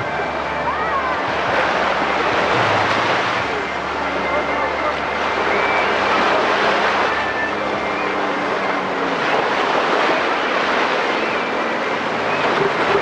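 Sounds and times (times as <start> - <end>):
jet ski engine droning: 0.0 - 13.0.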